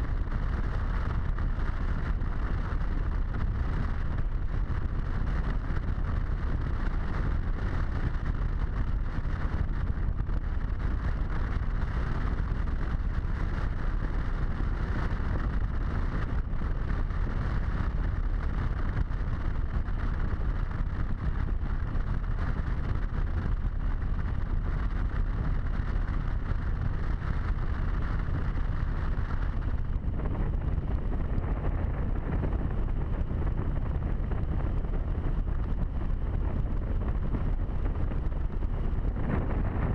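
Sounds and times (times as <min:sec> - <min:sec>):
motorcycle engine running: 0:00.0 - 0:39.9
wind rushing over camera: 0:00.0 - 0:39.9.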